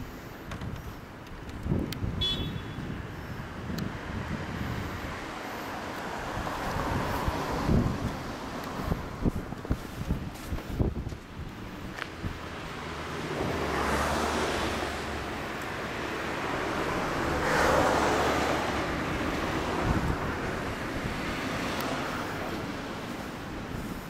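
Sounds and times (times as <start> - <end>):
wind noise on microphone: 0.4 - 24.0.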